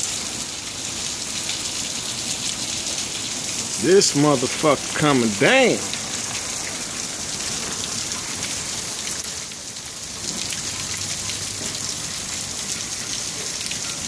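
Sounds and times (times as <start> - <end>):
heavy rain on rooftops: 0.0 - 14.0
raindrops tapping: 1.4 - 14.0.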